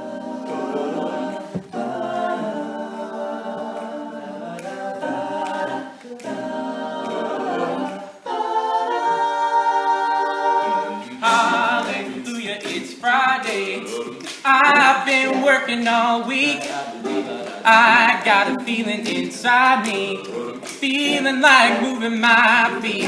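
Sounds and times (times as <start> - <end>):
male a cappella group singing: 0.0 - 23.0.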